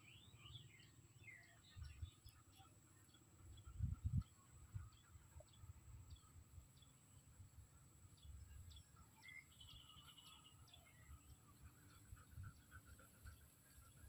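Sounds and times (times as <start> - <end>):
faint birdsong chirps: 0.0 - 14.0.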